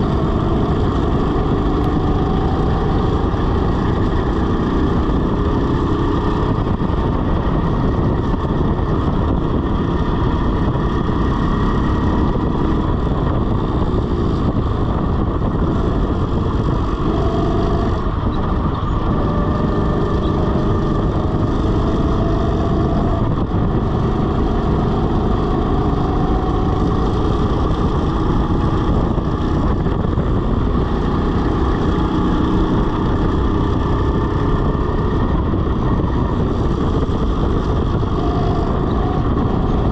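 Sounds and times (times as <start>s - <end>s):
go-kart motor rumble: 0.0s - 39.9s.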